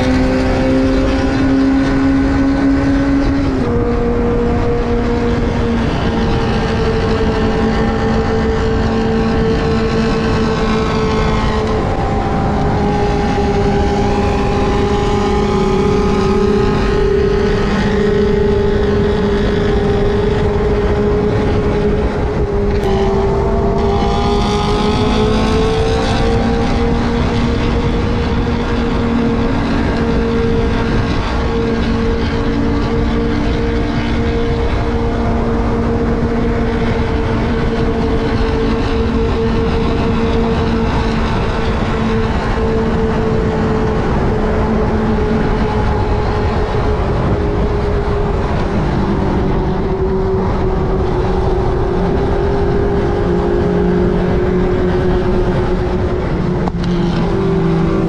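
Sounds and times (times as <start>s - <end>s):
motorcycle engine cruising: 0.0s - 58.0s
wind rushing: 0.0s - 58.0s.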